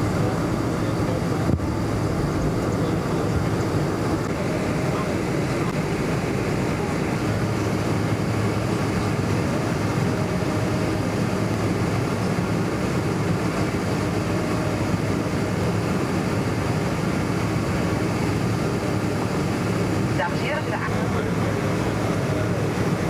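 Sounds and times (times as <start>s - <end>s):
airliner cabin engine and airflow noise: 0.0s - 23.0s.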